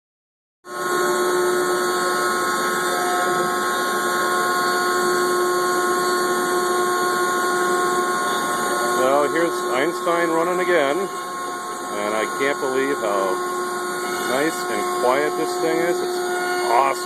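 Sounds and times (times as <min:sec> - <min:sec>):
router spindle high whine: 0:00.7 - 0:17.0.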